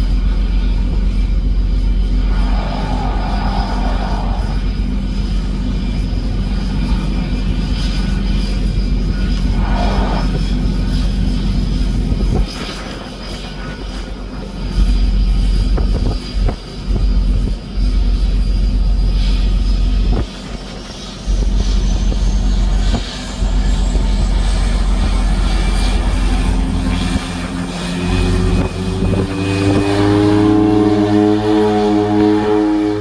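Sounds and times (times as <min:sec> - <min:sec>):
low rumble: 0:00.0 - 0:33.0
turboprop engines whining: 0:00.0 - 0:33.0.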